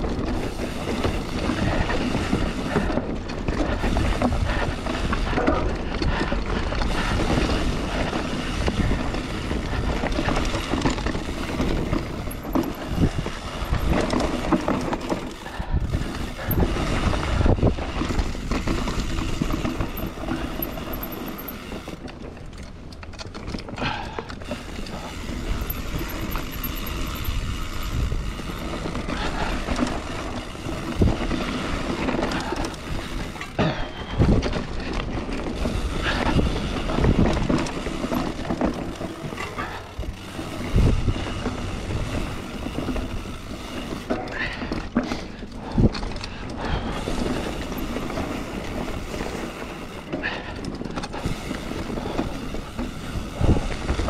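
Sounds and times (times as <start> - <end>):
bike knocks and rattles: 0.0 - 54.0
bike tyre and air rush: 0.0 - 54.0.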